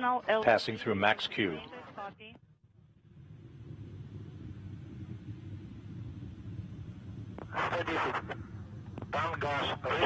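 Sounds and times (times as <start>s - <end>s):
distant rocket engine rumble: 1.5s - 10.0s.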